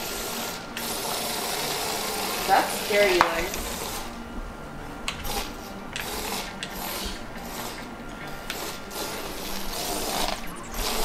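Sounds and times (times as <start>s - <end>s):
toy robot motor buzzing: 0.0s - 4.2s, 5.1s - 11.0s.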